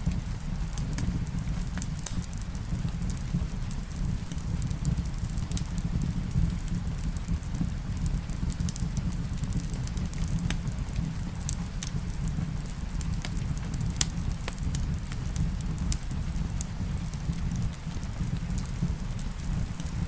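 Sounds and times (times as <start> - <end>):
fire popping: 0.0 - 20.0
low rumble: 0.0 - 20.0
rain: 0.0 - 20.0
wood fire crackling: 0.0 - 20.0.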